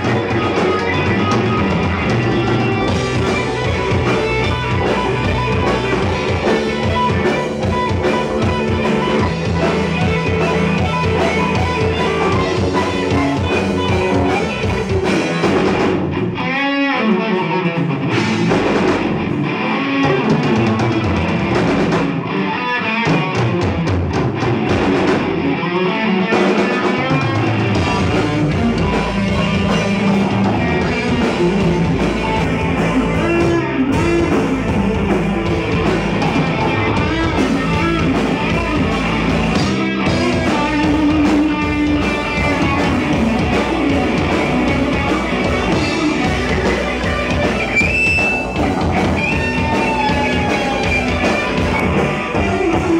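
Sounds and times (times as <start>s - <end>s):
drum kit: 0.0s - 16.5s, 17.6s - 52.9s
bass guitar: 0.0s - 52.9s
electric guitar: 0.0s - 52.9s.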